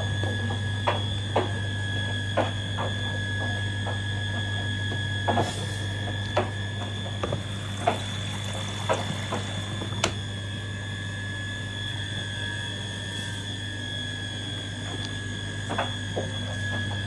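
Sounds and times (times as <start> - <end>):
washing machine motor humming: 0.0 - 17.0.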